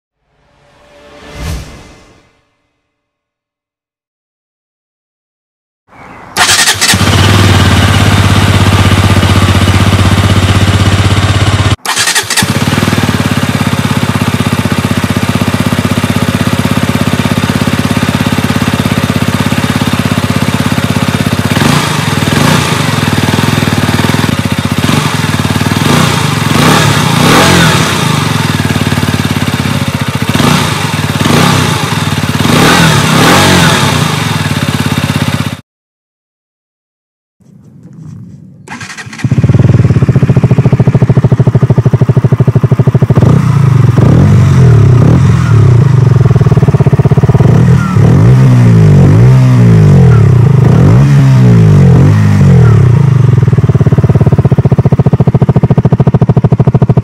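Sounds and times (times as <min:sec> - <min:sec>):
motorcycle engine idling and revving: 0:06.4 - 0:35.6, 0:37.4 - 0:57.0.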